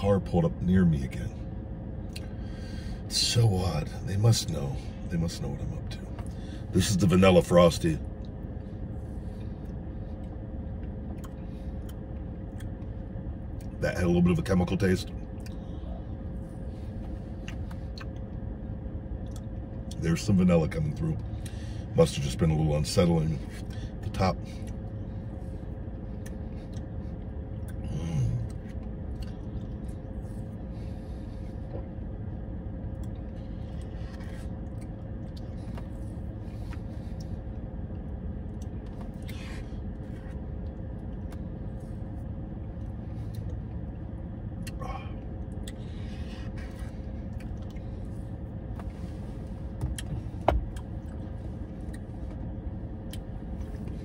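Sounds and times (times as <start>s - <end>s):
car cabin hum: 0.0s - 54.0s.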